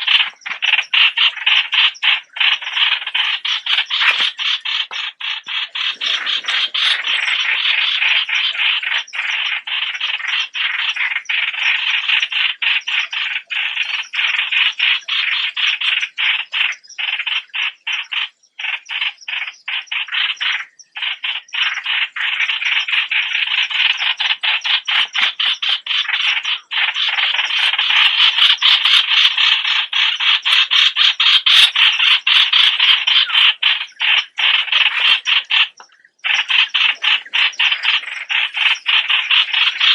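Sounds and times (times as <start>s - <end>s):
birds chattering harshly: 0.0s - 39.9s.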